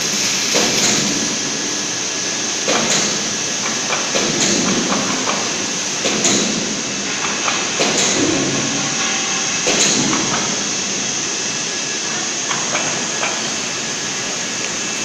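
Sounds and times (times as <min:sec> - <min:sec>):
machinery running: 0:00.0 - 0:15.0.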